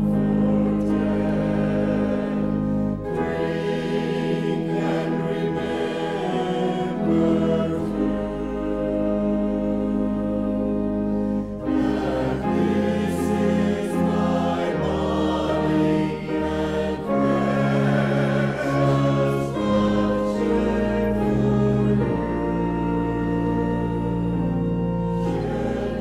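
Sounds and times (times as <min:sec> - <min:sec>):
choir singing a hymn: 0:00.0 - 0:26.0
instrumental accompaniment: 0:00.0 - 0:26.0.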